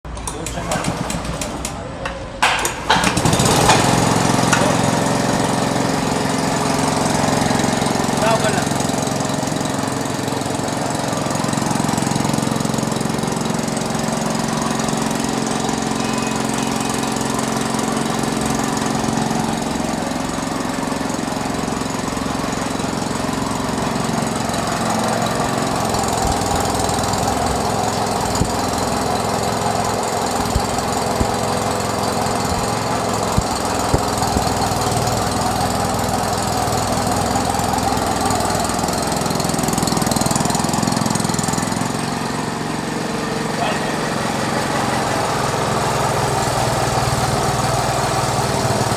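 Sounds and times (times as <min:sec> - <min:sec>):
juice crushing machine running: 0:00.0 - 0:48.9.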